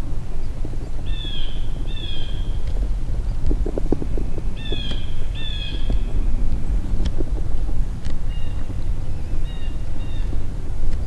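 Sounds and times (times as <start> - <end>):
short crackles: 0.0 - 11.0
steady low rumble: 0.0 - 11.0.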